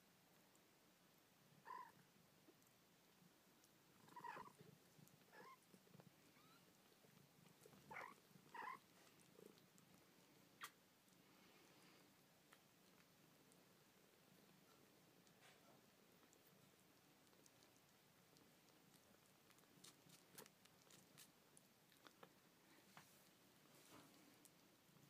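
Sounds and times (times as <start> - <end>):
cat purring: 0.3 - 25.0.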